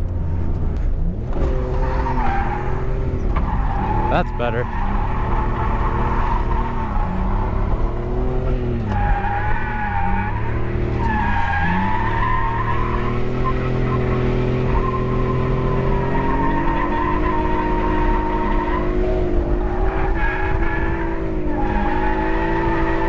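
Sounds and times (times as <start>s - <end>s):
car engine revving: 0.0s - 23.0s
tyres skidding: 0.0s - 23.0s.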